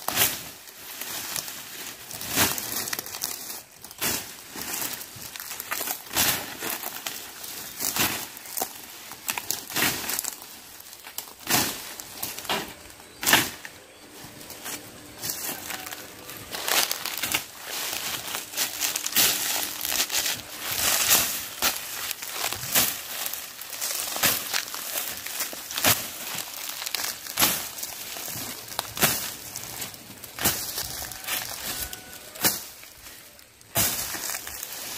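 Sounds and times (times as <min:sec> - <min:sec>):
rustling leaves: 0:00.0 - 0:34.9.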